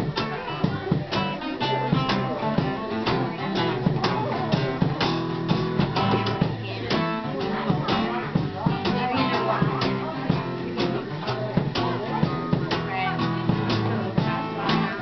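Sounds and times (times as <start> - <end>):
acoustic guitars strumming: 0.0 - 15.0
box drum beat: 0.0 - 15.0.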